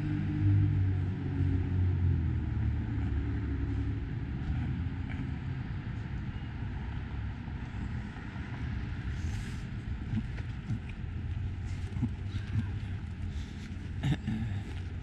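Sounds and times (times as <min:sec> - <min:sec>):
low street rumble: 0:00.0 - 0:15.0
vehicle engine hum: 0:00.0 - 0:15.0.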